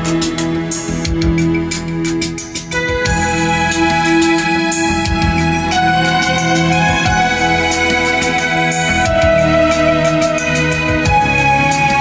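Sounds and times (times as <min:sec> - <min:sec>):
music over loudspeakers: 0:00.0 - 0:12.0.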